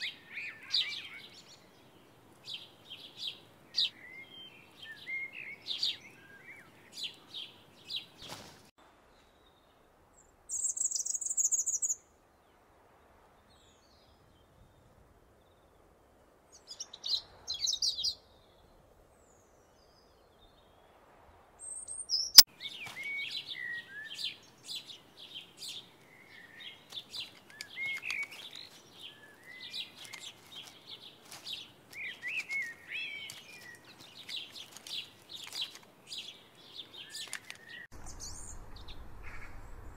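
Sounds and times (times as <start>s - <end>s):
small songbirds chirping: 0.0s - 12.6s, 13.4s - 20.9s, 21.6s - 39.9s.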